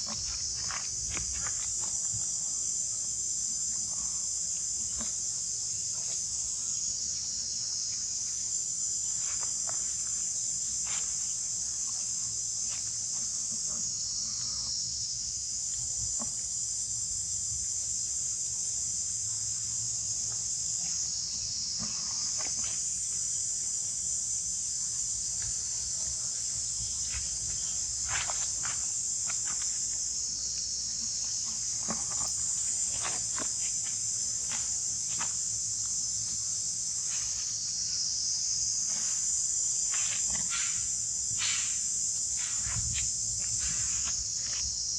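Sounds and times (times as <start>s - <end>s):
insects chorus: 0.0s - 44.9s.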